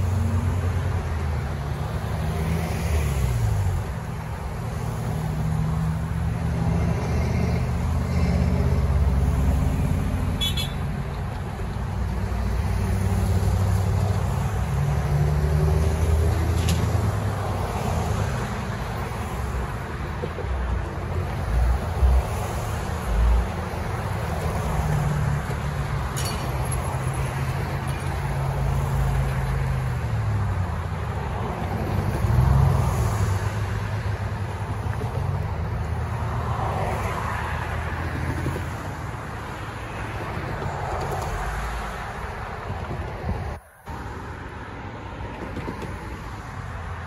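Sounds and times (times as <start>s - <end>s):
car engines passing: 0.0s - 47.0s
tyres on pavement: 0.0s - 47.0s.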